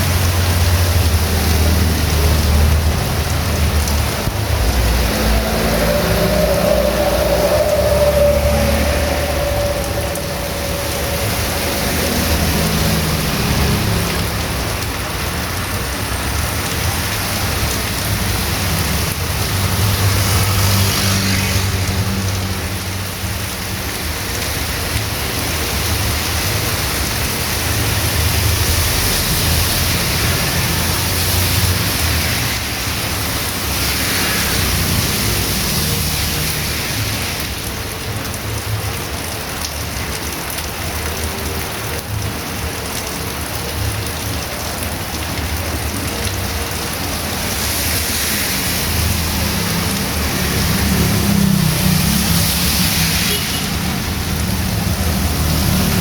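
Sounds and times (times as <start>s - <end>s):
heavy rain on a street: 0.0s - 56.0s
vehicles passing on wet road: 0.0s - 56.0s.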